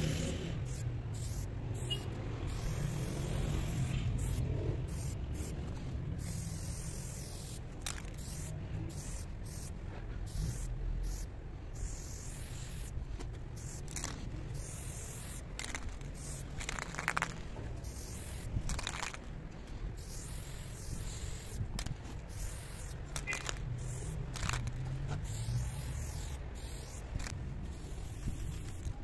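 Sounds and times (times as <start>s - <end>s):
aerosol spray can hissing: 0.0s - 5.6s, 6.2s - 9.7s, 10.3s - 13.0s, 13.6s - 19.2s, 20.0s - 29.0s.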